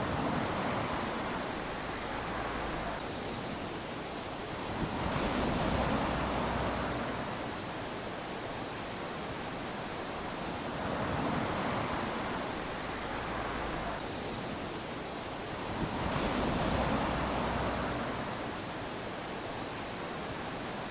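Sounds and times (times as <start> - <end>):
small waves lapping onto sand: 0.0 - 3.1, 3.7 - 20.9.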